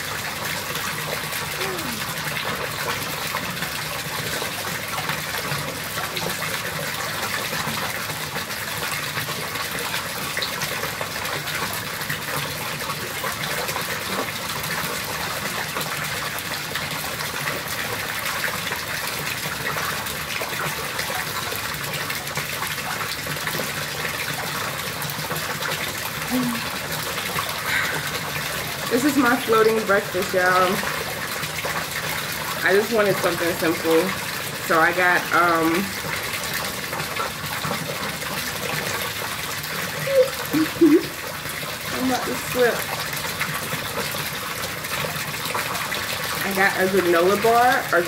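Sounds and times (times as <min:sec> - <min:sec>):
water pouring into pool: 0:00.0 - 0:48.0.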